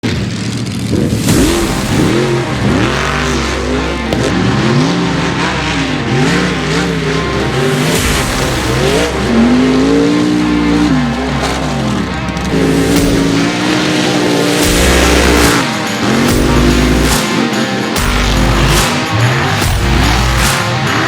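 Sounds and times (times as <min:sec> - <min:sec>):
truck engines revving hard: 0:00.0 - 0:21.0.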